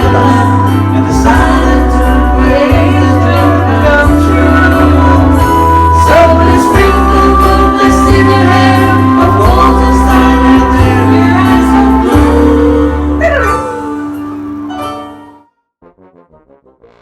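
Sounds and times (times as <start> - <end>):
pop music with singing: 0.0 - 14.3.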